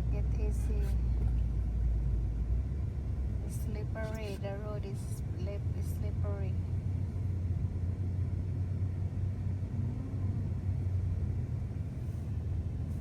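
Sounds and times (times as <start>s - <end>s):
car engine rumble: 0.0s - 13.0s
tyres on snowy road: 0.0s - 13.0s.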